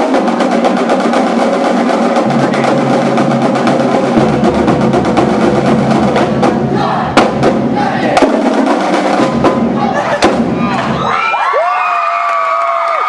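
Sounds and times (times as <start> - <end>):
loud accented drum hit: 0.0 - 11.2
marching drumline cadence: 0.0 - 11.7.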